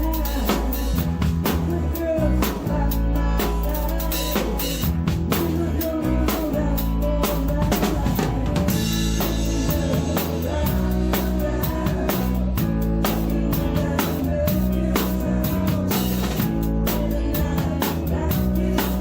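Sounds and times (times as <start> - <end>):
drum kit backbeat with rimshots: 0.0 - 19.0
live band music: 0.0 - 19.0.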